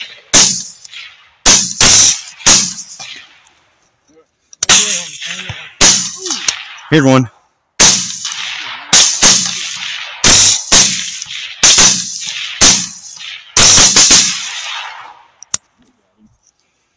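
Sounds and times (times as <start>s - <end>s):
rifle shots with echo: 0.0s - 3.5s, 4.6s - 15.4s.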